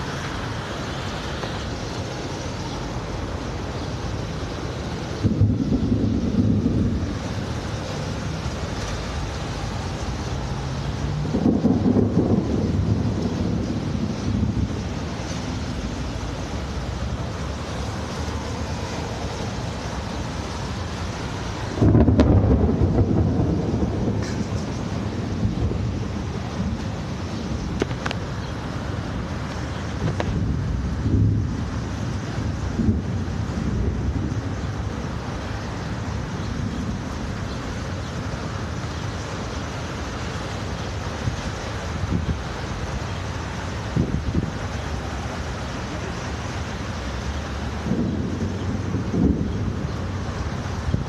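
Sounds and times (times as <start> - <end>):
storm noise hiss: 0.0 - 51.0
wind buffeting microphone: 1.6 - 51.0
thunder clap rumbling: 5.0 - 39.2, 40.6 - 51.0.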